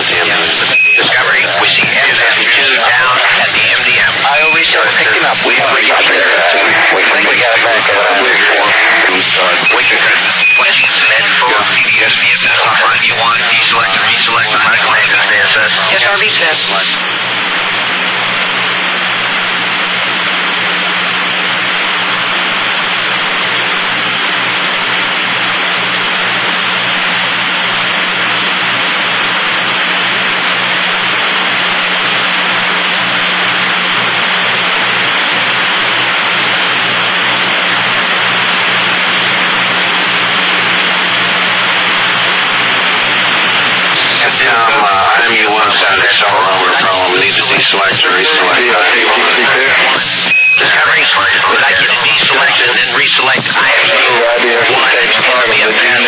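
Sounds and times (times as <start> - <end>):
radio channel hiss: 0.0 - 56.0
steady low hum: 0.0 - 56.0.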